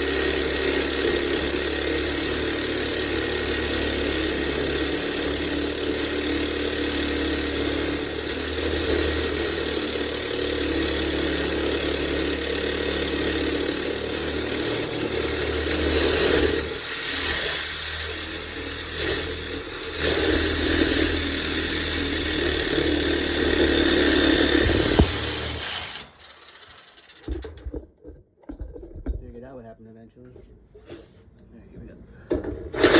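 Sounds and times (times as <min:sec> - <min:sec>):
power cutting tool cutting bolt: 0:00.0 - 0:27.5.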